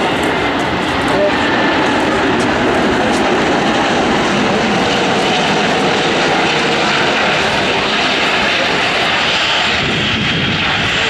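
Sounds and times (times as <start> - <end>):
jet airliner landing roar: 0.0 - 11.0.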